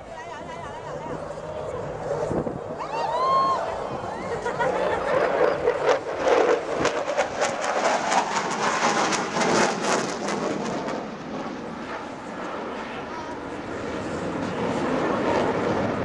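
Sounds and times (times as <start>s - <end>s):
fighter jet engine crackling: 0.4s - 16.0s.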